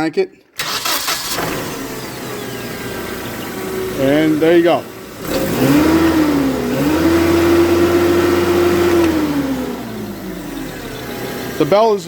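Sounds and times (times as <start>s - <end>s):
forklift engine revving: 0.6s - 12.0s.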